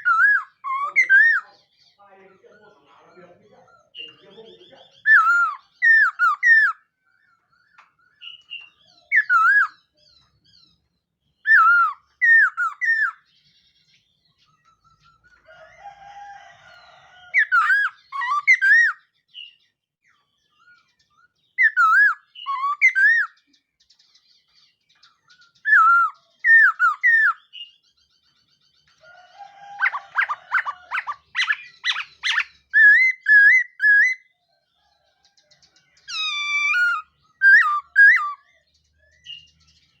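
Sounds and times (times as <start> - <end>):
bird singing whistled notes: 0.0 - 2.0, 4.0 - 16.0, 16.8 - 19.7, 20.5 - 34.3, 35.2 - 40.0.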